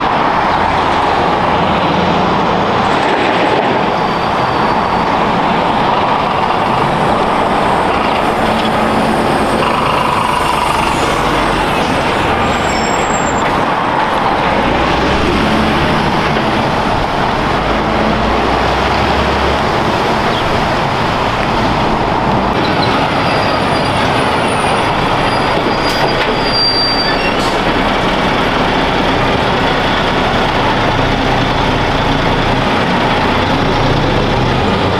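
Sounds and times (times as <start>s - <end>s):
heavy truck engines running: 0.0s - 34.9s.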